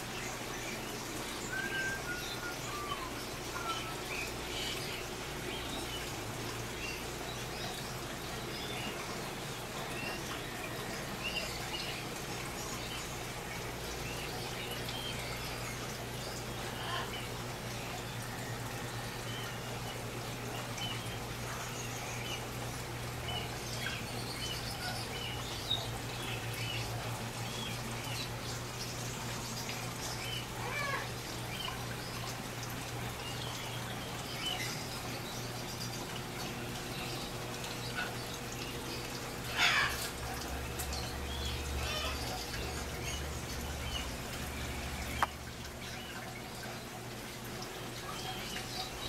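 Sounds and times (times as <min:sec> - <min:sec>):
fish-tank equipment hum and water: 0:00.0 - 0:49.0.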